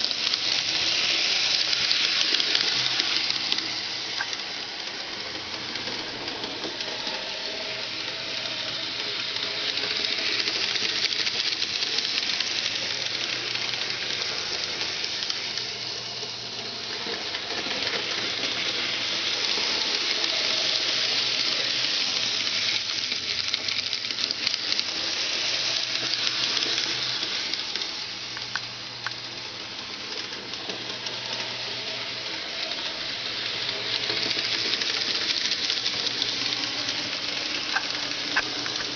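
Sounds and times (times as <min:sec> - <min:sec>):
model train rattling on track: 0:00.0 - 0:38.9.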